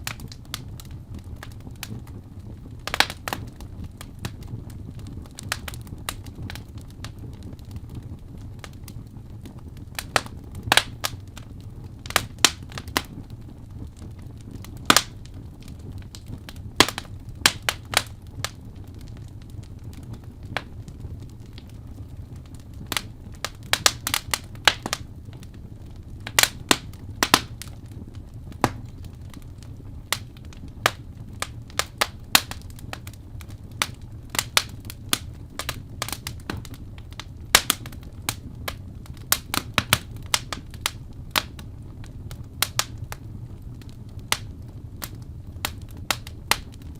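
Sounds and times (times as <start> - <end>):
fire crackling and popping: 0.0 - 46.9
low fire rumble: 0.0 - 46.9.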